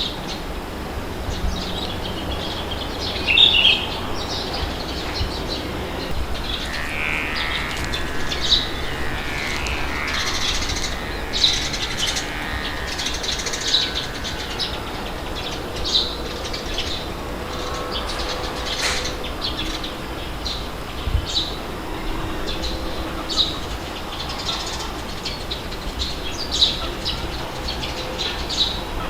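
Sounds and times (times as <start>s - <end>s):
birds chirping: 0.0s - 29.0s
wind rushing: 0.0s - 29.0s.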